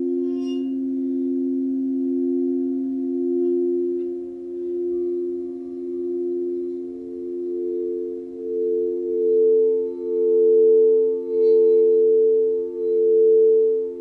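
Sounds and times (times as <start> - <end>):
low held relaxation tones: 0.0 - 14.0.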